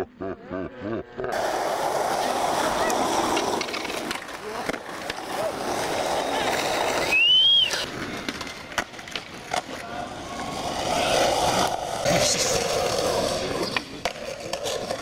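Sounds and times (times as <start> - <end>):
skateboard clacks: 1.3 - 15.0
skateboard wheels rolling on asphalt: 1.3 - 15.0.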